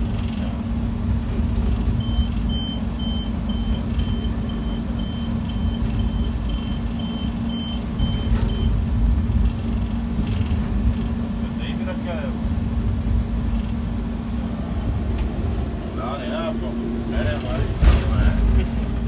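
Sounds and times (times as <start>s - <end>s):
diesel locomotive rumbling: 0.0s - 19.0s.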